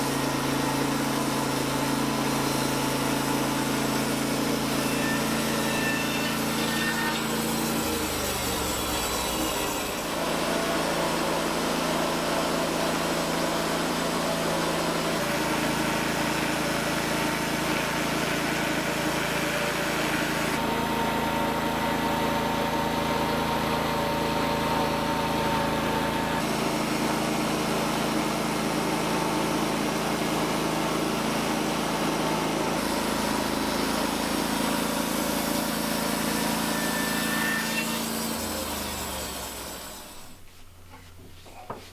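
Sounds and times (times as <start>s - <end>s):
saw blade cutting log: 0.0s - 20.8s, 25.5s - 40.4s
band sawmill engine: 0.0s - 40.5s.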